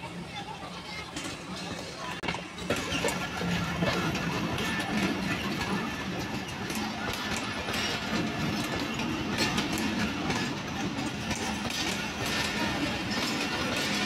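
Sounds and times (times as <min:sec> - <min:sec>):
train wheels clattering: 0:00.9 - 0:14.0.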